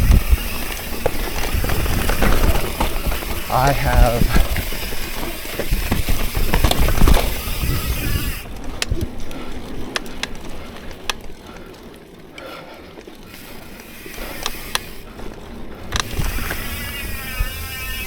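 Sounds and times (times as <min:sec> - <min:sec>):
bike clicks and rattles: 0:00.0 - 0:18.0
bike tyres rumbling on dirt: 0:00.0 - 0:18.0.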